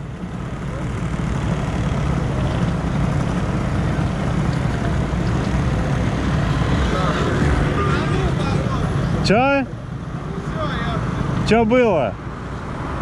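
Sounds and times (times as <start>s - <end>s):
scooter engines idling: 0.0s - 12.8s.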